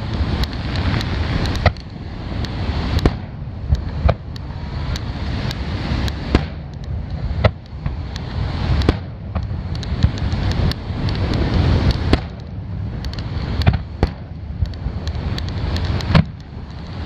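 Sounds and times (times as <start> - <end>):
fireworks bursting: 0.0 - 17.0
steady low rumble: 0.0 - 17.0.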